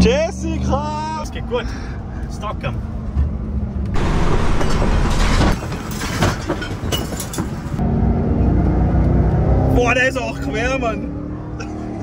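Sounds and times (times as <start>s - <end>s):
road rumble and rattling: 0.0s - 12.0s.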